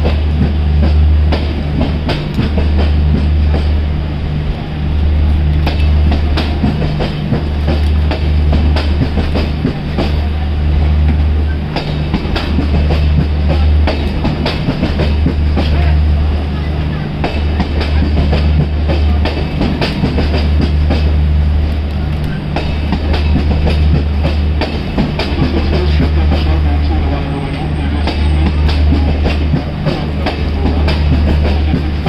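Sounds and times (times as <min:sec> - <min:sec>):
low train rumble: 0:00.0 - 0:32.0
train wheels clicking over rail joints: 0:00.0 - 0:32.0.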